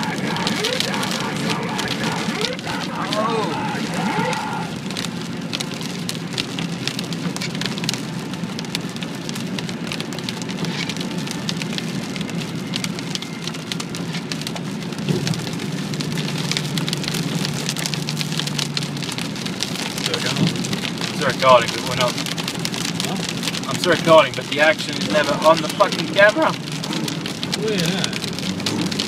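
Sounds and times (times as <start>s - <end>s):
car interior drone: 0.0s - 29.0s
rain pelting car windscreen: 0.0s - 29.0s.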